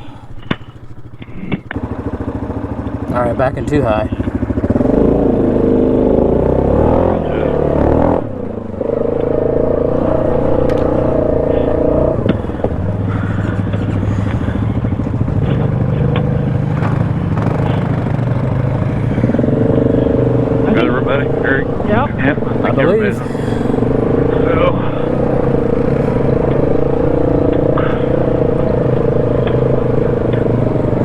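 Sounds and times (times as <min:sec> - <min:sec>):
atv engine running under load: 0:00.0 - 0:31.0.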